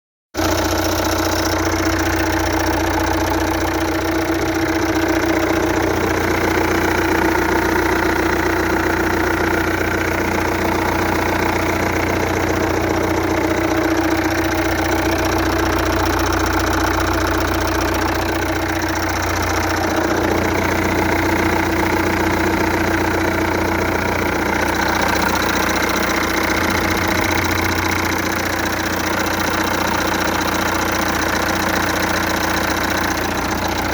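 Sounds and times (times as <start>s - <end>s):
diesel engine running: 0.4s - 33.9s
engine knocking: 0.4s - 33.9s.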